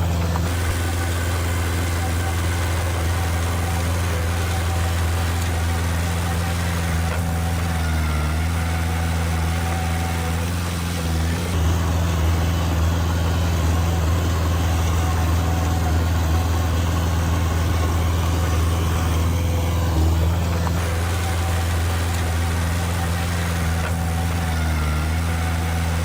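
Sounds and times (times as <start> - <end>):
dense rough noise: 0.0 - 26.0
diesel machinery engine running: 0.0 - 26.0.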